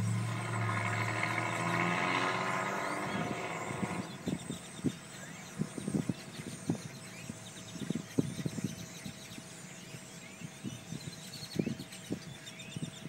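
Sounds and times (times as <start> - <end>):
faint steady hum: 0.0 - 13.0
flock of birds chirping: 0.0 - 13.0.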